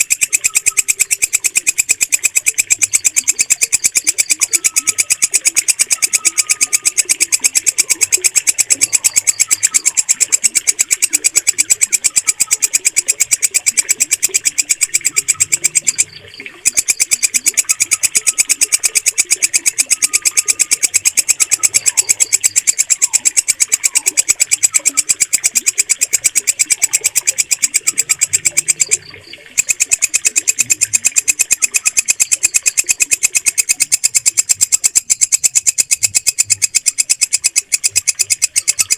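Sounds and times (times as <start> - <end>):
faint bird chirps: 0.0 - 38.9
katydid stridulating: 0.0 - 38.9.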